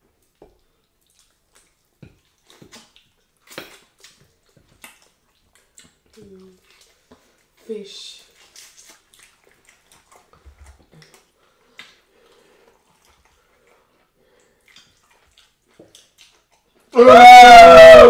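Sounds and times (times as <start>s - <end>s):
soft eating clicks and squelches: 0.0s - 16.9s.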